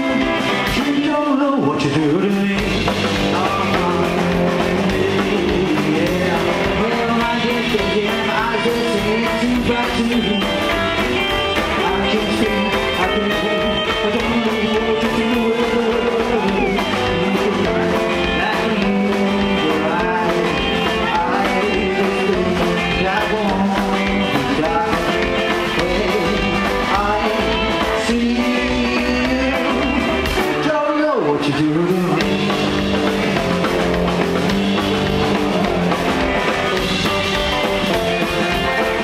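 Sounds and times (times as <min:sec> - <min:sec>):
rock and roll band playing: 0:00.0 - 0:39.0.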